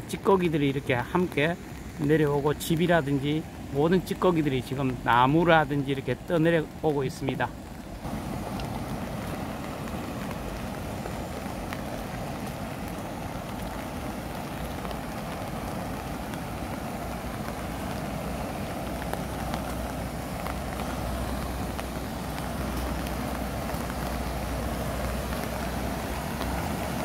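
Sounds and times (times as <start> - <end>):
fast-flowing river rushing: 0.0 - 27.0
rain falling: 0.0 - 27.0.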